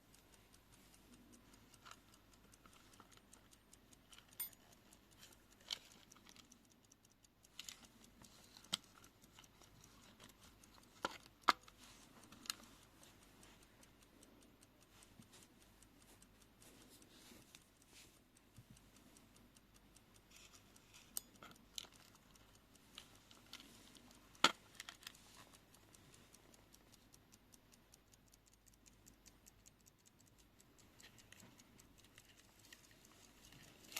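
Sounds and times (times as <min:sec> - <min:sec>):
alarm clock ticking: 0:00.0 - 0:33.9
irregular clicks: 0:00.0 - 0:33.9.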